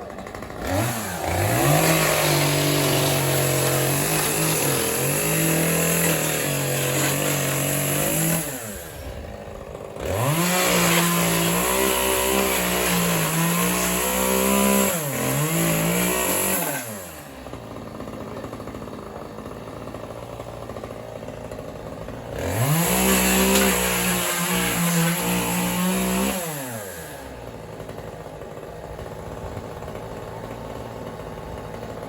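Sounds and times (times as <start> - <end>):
chainsaw revving: 0.0 - 32.0.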